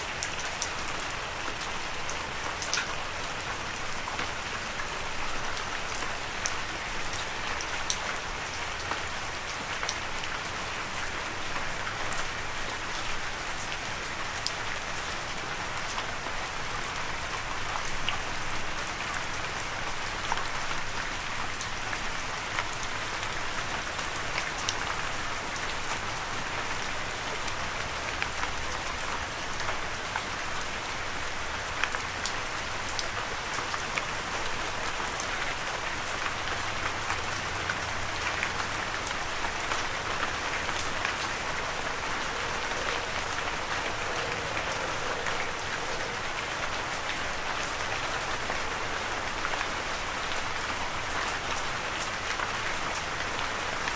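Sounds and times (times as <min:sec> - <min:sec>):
steady rain pattering: 0:00.0 - 0:53.9.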